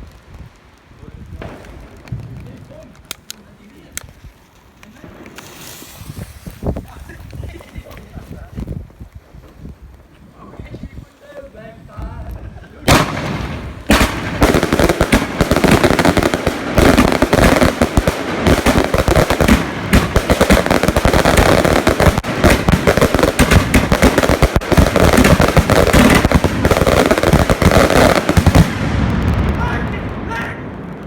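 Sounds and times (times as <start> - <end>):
fireworks rapid barrage with crackle: 0.0 - 3.9, 4.7 - 8.5, 12.8 - 31.0.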